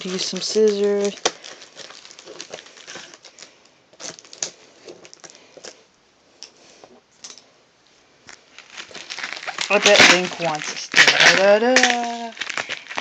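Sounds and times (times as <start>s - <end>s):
packaging rustling: 0.0s - 5.8s, 8.3s - 13.0s.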